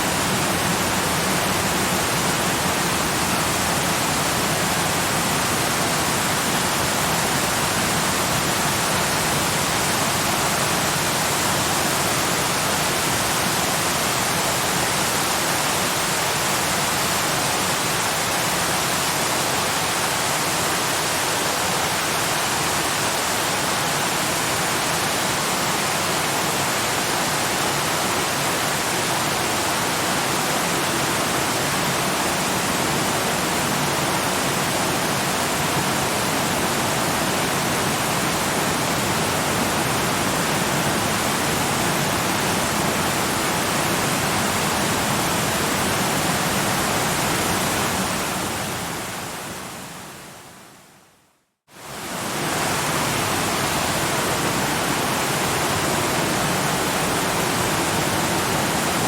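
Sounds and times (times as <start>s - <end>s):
waterfall rushing: 0.0s - 50.2s, 51.8s - 59.0s.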